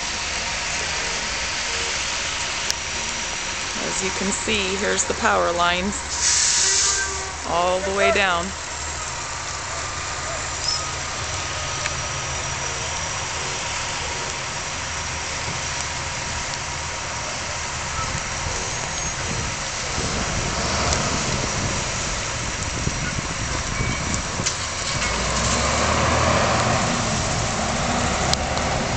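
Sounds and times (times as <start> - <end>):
constant hiss: 0.0 - 28.9.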